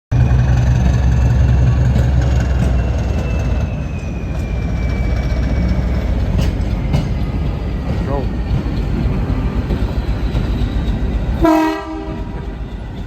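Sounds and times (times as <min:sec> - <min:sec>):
diesel locomotive rumble: 0:00.1 - 0:13.0
wheels clicking on rail joints: 0:00.6 - 0:13.0.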